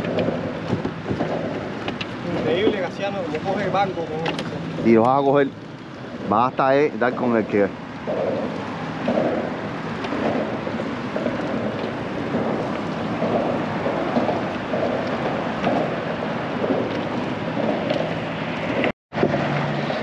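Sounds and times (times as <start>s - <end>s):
water around boat: 0.0s - 20.0s
wind buffeting microphone: 0.0s - 20.0s.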